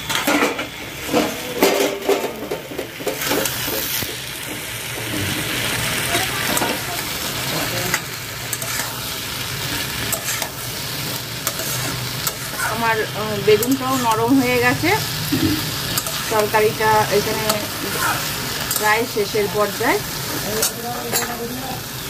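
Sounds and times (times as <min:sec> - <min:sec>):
spatula scraping a pan: 0:00.0 - 0:06.8, 0:07.9 - 0:19.5
vegetables sizzling in a pan: 0:00.0 - 0:22.0.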